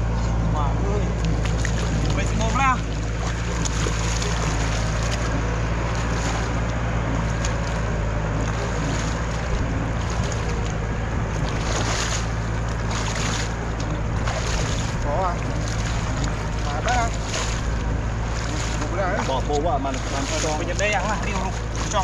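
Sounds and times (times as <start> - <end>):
small engine humming: 0.0 - 22.0
water splashing: 0.0 - 22.0.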